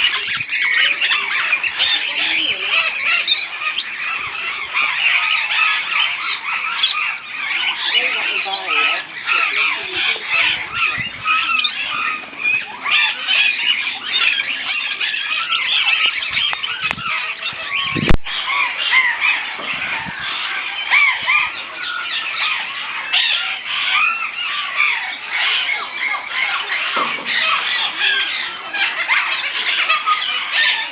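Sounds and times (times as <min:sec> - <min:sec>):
parrots squawking and chattering: 0:00.0 - 0:30.9.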